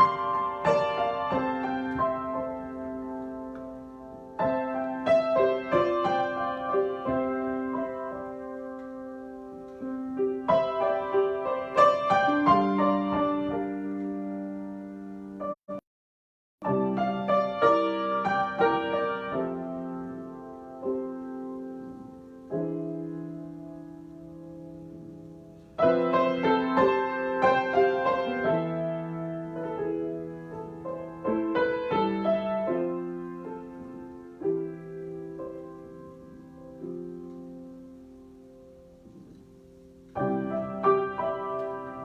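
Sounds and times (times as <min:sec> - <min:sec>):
solo piano improvisation: 0:00.0 - 0:15.8, 0:16.6 - 0:42.0.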